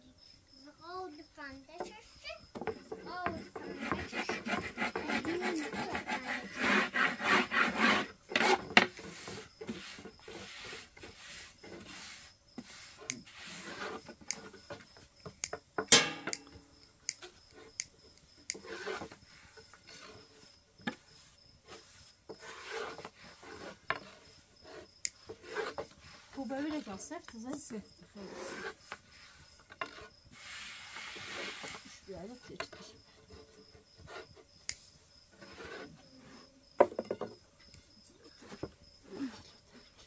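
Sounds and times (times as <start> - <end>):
wood rubbing and scraping: 0.9 - 16.5, 17.2 - 40.0.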